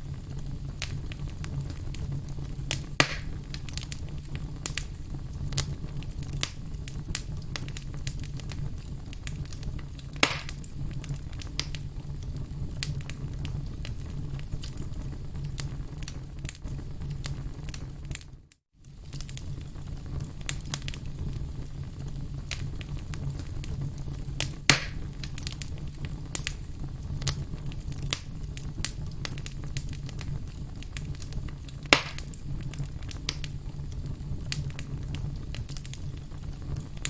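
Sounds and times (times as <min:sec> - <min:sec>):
firewood crackling: 0:00.0 - 0:37.0
low rumble of flame: 0:00.0 - 0:37.0
sharp pops of fire: 0:00.0 - 0:37.0.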